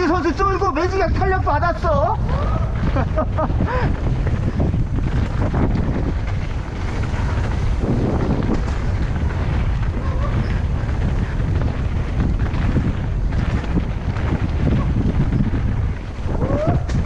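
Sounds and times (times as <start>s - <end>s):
mountain bike rolling on dirt: 0.0s - 17.0s
wind buffeting microphone: 0.0s - 17.0s.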